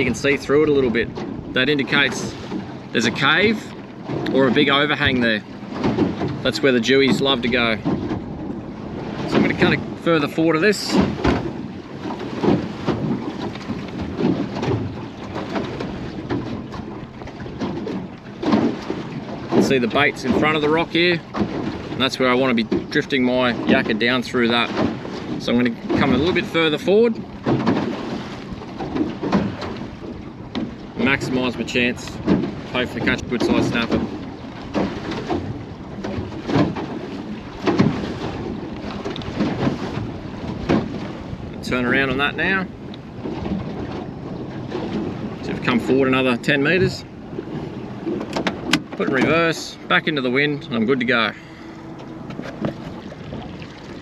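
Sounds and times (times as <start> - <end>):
water slapping against boat hull: 0.0 - 54.0
wind buffeting microphone: 0.0 - 54.0.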